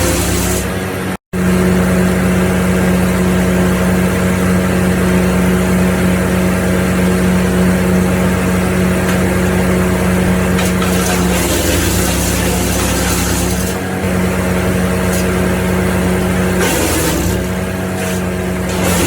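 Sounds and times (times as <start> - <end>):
wood chipper engine droning: 0.0 - 19.0.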